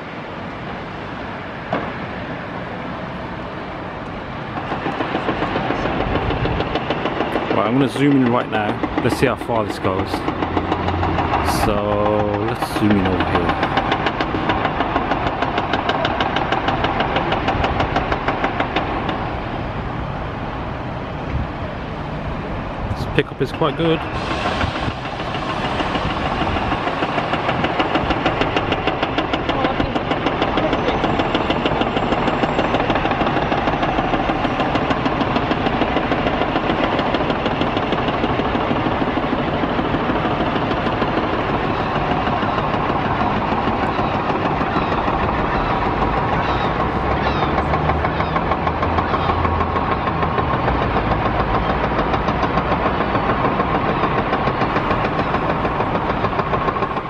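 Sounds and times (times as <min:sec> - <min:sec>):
city traffic: 0:00.0 - 0:57.0
construction machinery: 0:00.0 - 0:57.0.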